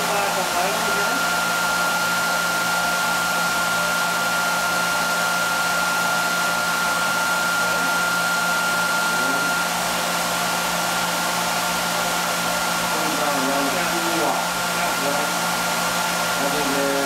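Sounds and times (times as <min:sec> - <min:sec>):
electric motor whirring: 0:00.0 - 0:17.0
high motor whine: 0:00.0 - 0:17.0.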